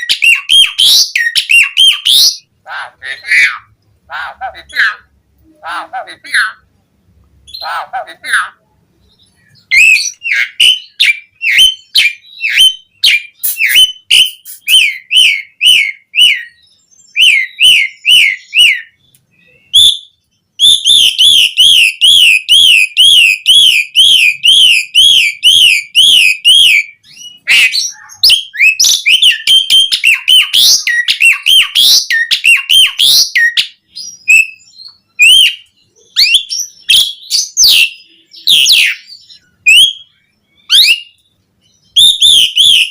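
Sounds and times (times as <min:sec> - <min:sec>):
starling singing: 0:00.0 - 0:06.8, 0:07.4 - 0:42.9.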